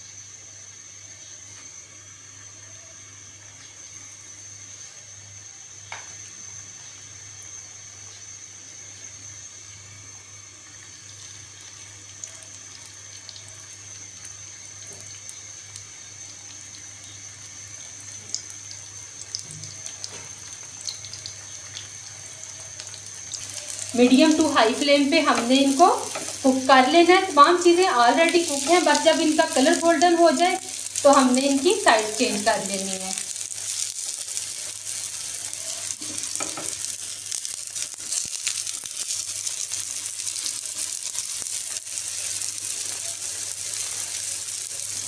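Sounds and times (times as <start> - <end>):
oil sizzling in a frying pan: 0.0 - 45.0.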